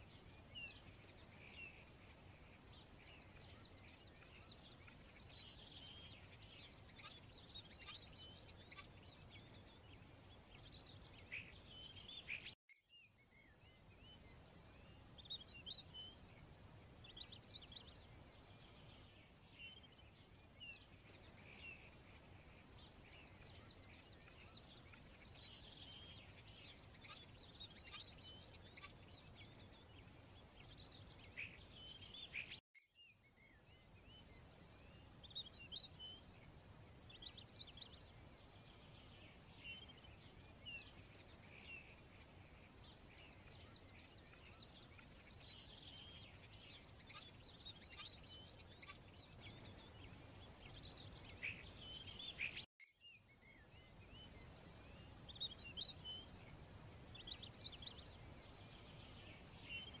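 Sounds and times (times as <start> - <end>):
faint birdsong chirps: 0.0 - 60.0
low steady hiss: 0.0 - 60.0.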